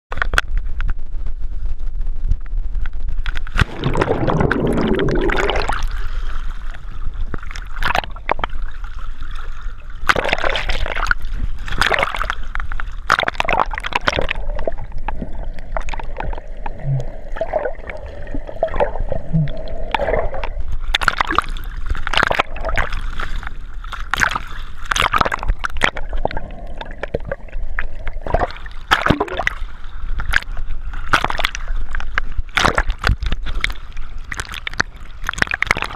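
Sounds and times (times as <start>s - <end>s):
muffled water sloshing and splashing: 0.1s - 35.9s.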